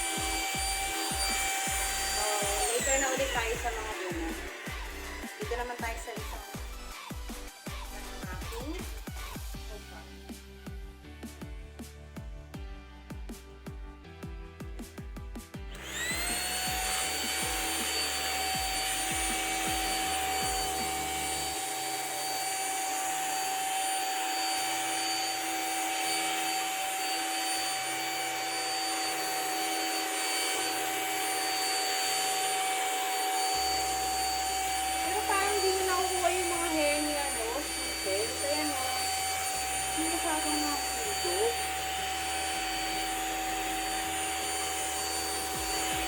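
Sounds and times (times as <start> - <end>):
vacuum motor whine: 0.0 - 10.0, 15.6 - 46.0.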